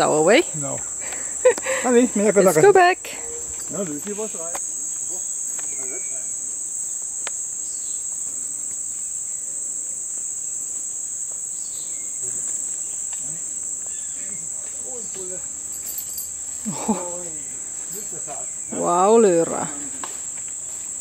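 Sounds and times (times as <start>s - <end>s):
insects shrill drone: 0.0s - 21.0s.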